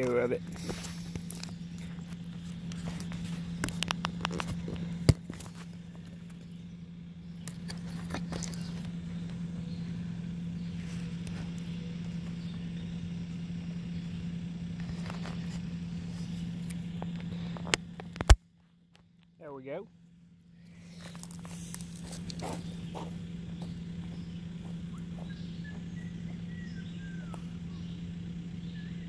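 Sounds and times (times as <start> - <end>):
distant excavator diesel engine: 0.0 - 29.0.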